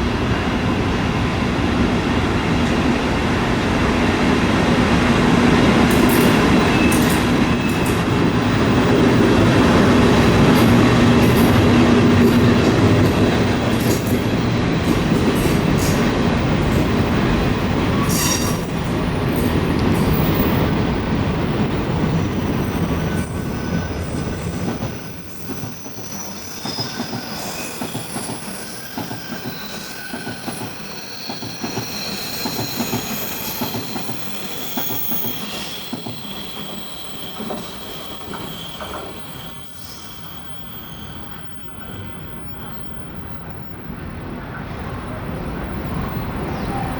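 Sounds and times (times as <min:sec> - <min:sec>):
freight train wheels rumbling: 0:00.0 - 0:46.9
high wheel squeals: 0:06.2 - 0:44.0.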